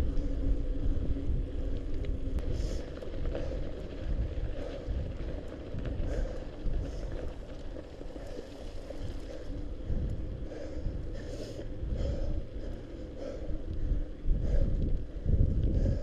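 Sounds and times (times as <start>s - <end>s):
steady low rumble: 0.0s - 16.0s
person panting hard: 2.4s - 16.0s.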